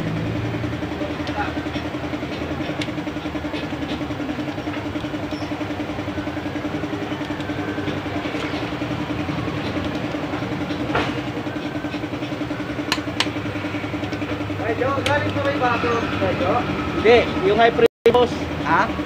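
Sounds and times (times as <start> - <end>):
pulsing engine drone: 0.0 - 19.0.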